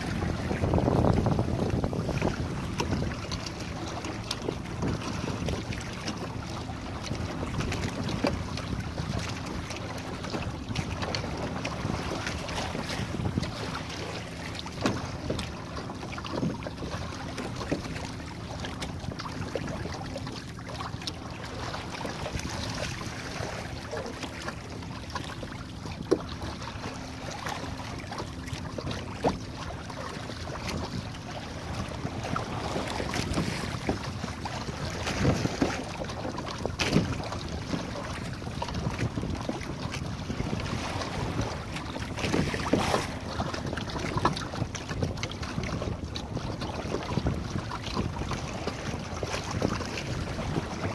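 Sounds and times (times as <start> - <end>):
water splashing against a hull: 0.0 - 50.9
waves slapping a hull: 0.0 - 50.9
wind on microphone: 0.0 - 50.9.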